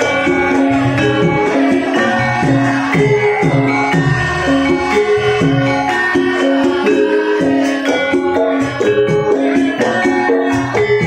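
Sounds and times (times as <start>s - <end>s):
jingling shaking rhythm: 0.0s - 11.0s
sustained pitched melody notes: 0.0s - 11.0s.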